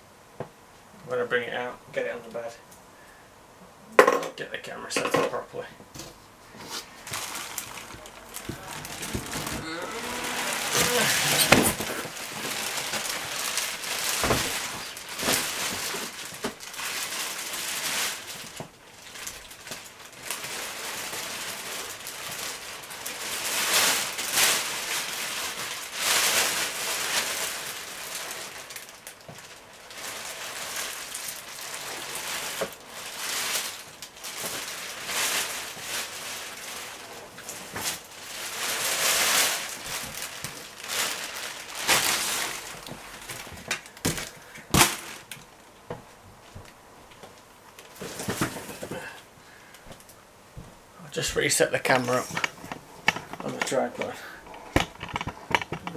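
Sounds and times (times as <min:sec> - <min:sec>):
packaging rustling and crackling: 0:06.0 - 0:50.2, 0:51.1 - 0:55.9.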